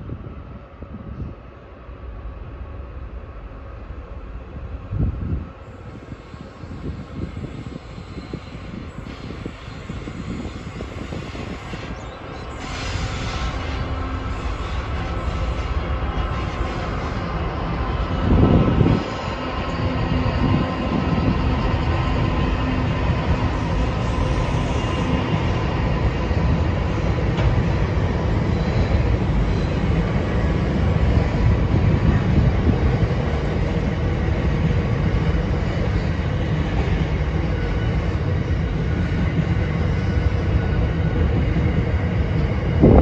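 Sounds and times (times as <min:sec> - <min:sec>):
diesel locomotive passing: 0:00.0 - 0:43.0.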